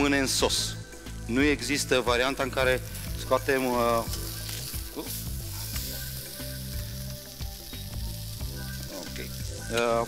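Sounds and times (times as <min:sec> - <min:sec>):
food sizzling in frying pan: 0:00.3 - 0:10.0.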